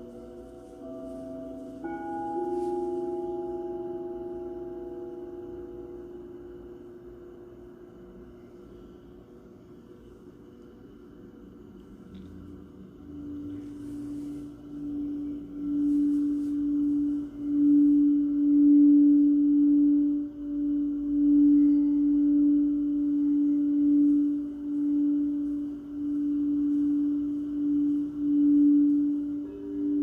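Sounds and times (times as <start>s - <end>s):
singing bowl ringing: 0.0s - 11.1s, 13.0s - 30.0s.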